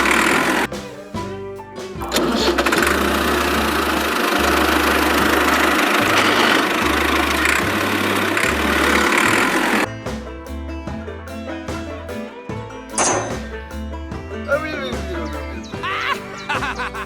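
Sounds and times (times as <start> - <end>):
small tractor engine running: 0.0 - 17.0.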